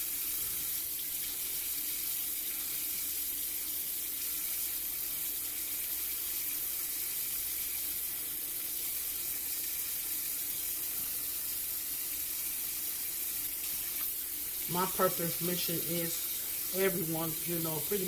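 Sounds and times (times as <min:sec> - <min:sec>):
faucet running into metal sink: 0:00.0 - 0:18.0.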